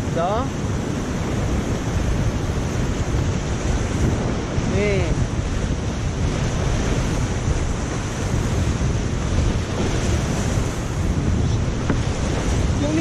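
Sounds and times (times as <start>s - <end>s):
whitewater rushing: 0.0s - 13.0s
wind buffeting microphone: 0.0s - 13.0s.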